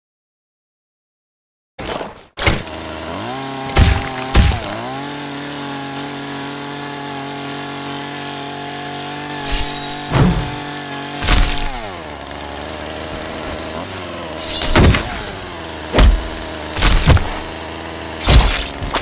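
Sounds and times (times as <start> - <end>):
chainsaw engine starting and running: 2.4 - 19.0.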